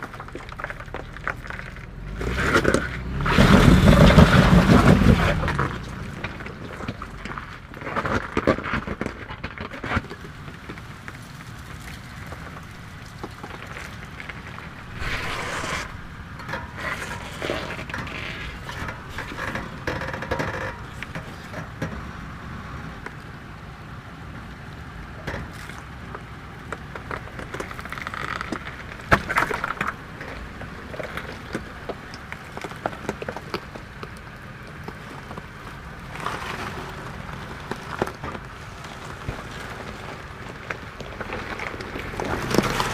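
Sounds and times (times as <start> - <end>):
engine rumble: 0.0 - 42.9
tyres crunching on rock and gravel: 0.0 - 42.9.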